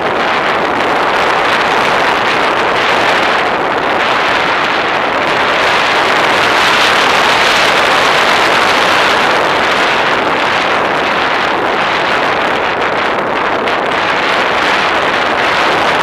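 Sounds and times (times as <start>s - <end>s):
rushing airflow noise: 0.0s - 16.0s.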